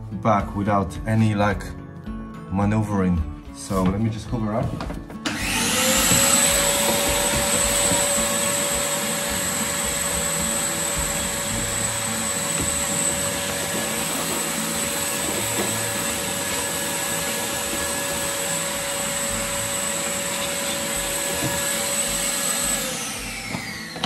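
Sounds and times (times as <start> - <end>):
vacuum cleaner whining: 4.6 - 24.0.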